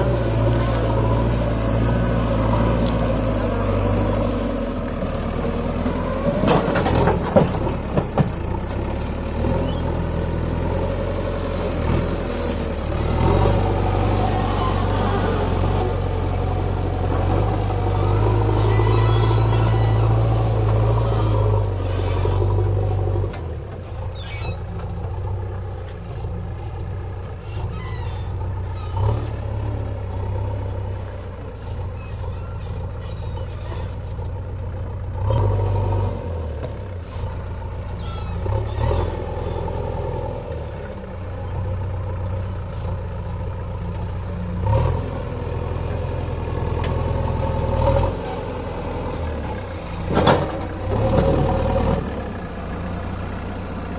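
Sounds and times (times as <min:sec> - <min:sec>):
diesel engine running under load: 0:00.0 - 0:53.9.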